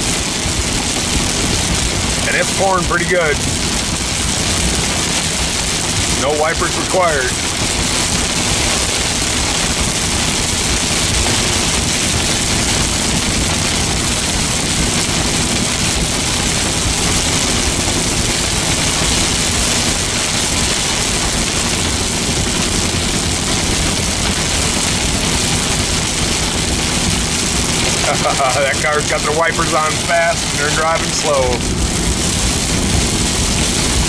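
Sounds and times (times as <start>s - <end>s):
heavy rain on car windshield: 0.0s - 34.0s
road and engine drone: 0.0s - 34.0s.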